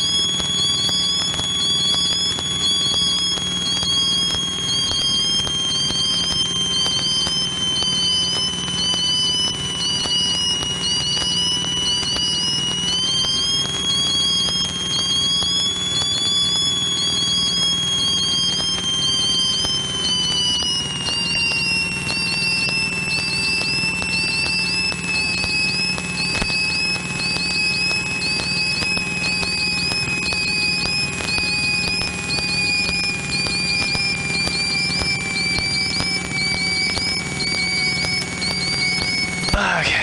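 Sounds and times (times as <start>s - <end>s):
high whine: 0.0s - 40.0s.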